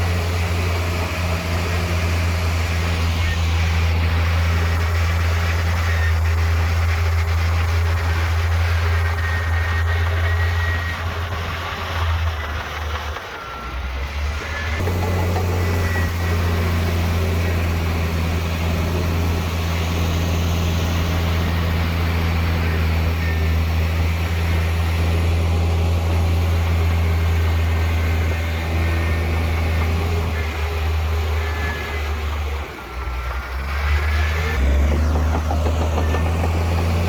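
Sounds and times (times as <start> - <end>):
diesel engine droning: 0.0 - 37.0
faint high squeals: 0.5 - 37.0.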